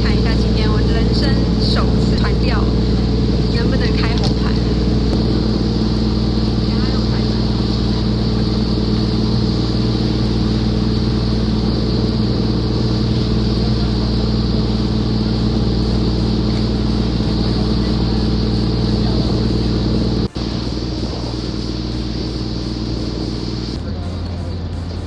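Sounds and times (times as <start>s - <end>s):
boat engine droning: 0.0s - 25.0s
rush of wind and sea: 0.0s - 25.0s.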